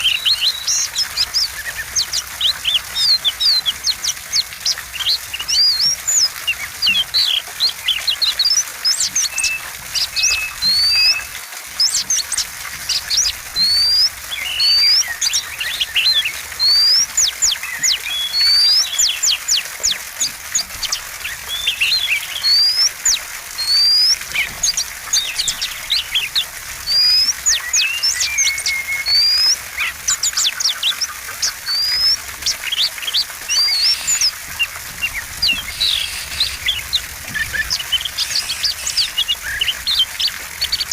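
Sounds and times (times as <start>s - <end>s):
bird singing fast whistles: 4.7s - 12.3s, 12.9s - 40.9s.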